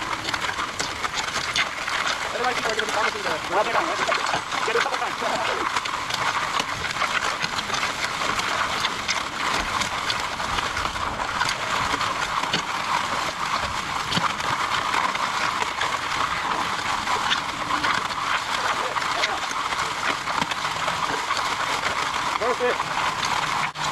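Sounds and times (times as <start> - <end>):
concrete mixer running: 0.0 - 23.9.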